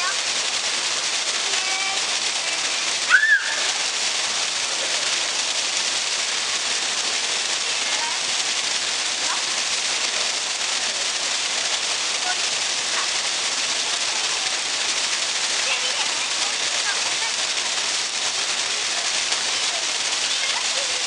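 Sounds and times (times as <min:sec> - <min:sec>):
water splashing into pool: 0:00.0 - 0:21.0.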